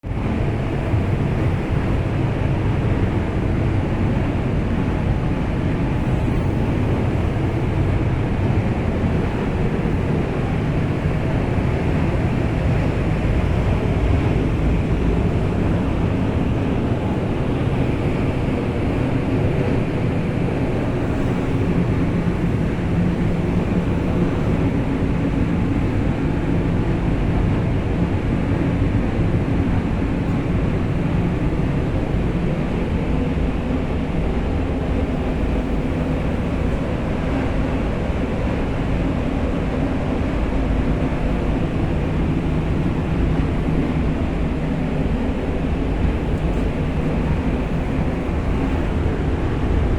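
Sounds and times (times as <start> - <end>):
mechanical rumble with low hum: 0.0 - 49.9.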